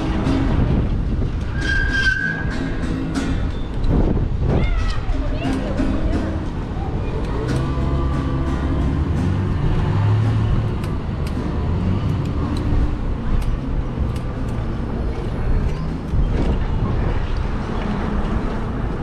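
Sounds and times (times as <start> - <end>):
passing vehicles rumble: 0.0 - 19.0.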